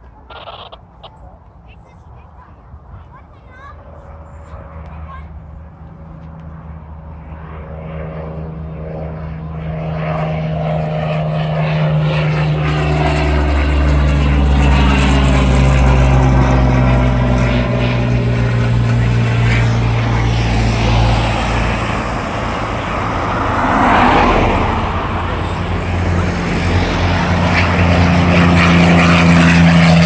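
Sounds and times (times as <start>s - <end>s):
propeller aircraft engine drone: 0.0s - 30.0s.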